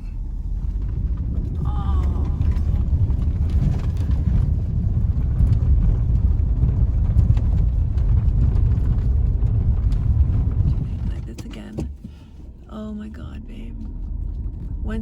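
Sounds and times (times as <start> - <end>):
car driving on rough road: 0.0 - 15.0.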